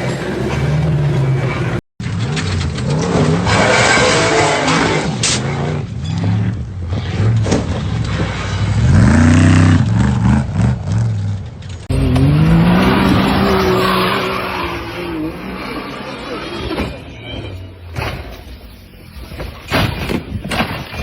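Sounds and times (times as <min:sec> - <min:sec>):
engine revving hard: 0:00.0 - 0:17.7
another engine revving: 0:00.0 - 0:19.4.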